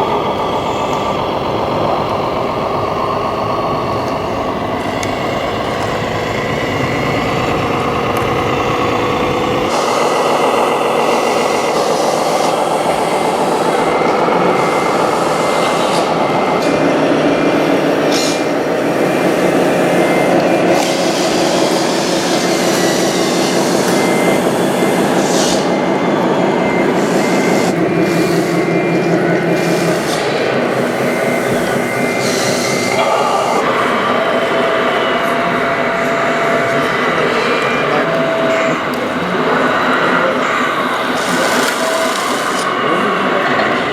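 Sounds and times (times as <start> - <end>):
electric motors and gearboxes whining: 0.0 - 43.9.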